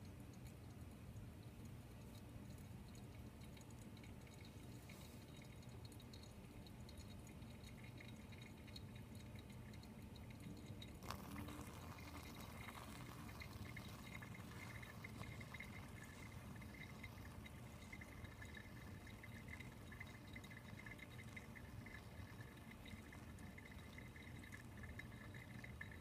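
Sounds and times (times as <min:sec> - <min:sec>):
faint small ticks: 0:00.0 - 0:26.0
water trickling onto coffee grounds: 0:00.0 - 0:26.0.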